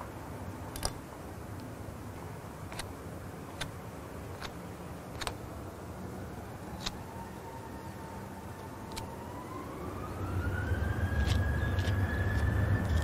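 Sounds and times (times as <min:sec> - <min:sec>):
distant aircraft engines rumbling: 0:00.0 - 0:13.0.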